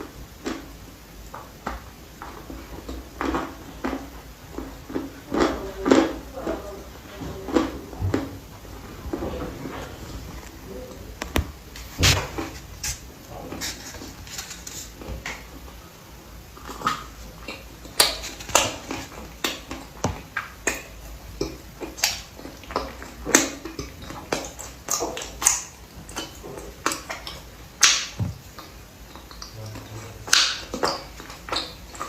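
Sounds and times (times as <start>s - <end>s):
chewing with crunches: 0.0s - 32.0s.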